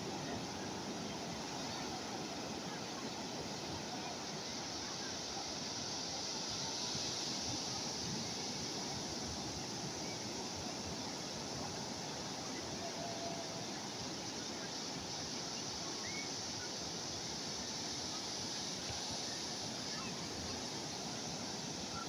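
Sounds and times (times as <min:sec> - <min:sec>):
calm sea waves washing: 0:00.0 - 0:22.0.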